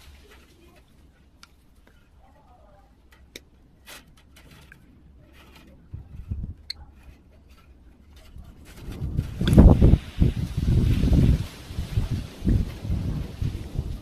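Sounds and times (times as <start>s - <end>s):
rustling and knocking: 0.0s - 14.0s.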